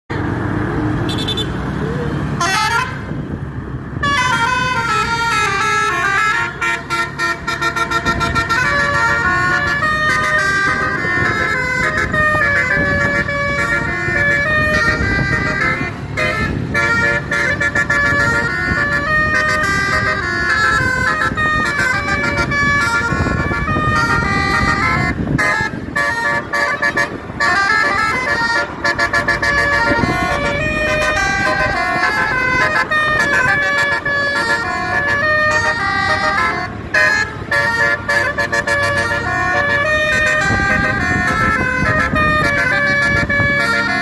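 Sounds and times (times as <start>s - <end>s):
bus engine rumble: 0.1s - 44.0s
bus horn playing melody: 1.1s - 1.6s, 2.3s - 3.2s, 4.0s - 44.0s.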